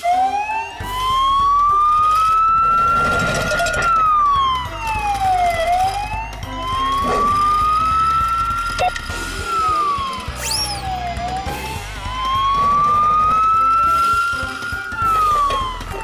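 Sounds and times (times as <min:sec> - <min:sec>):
police siren wailing: 0:00.0 - 0:16.0.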